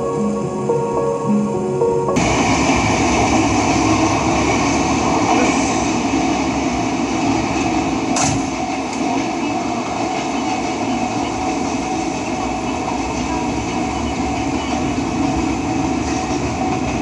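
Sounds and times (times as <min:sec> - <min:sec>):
electric train running slowly: 0:00.0 - 0:17.0.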